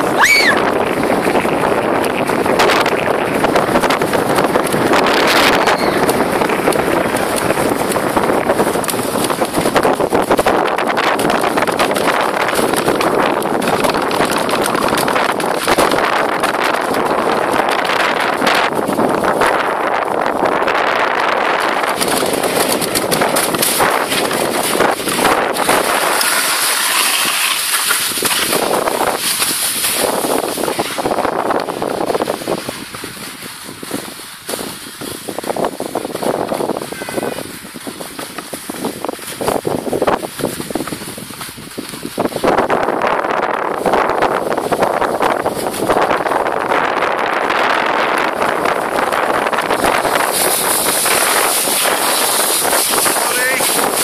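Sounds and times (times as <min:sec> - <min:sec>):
sled runners scraping on snow: 0:00.0 - 0:54.0
wind buffeting microphone: 0:00.0 - 0:54.0.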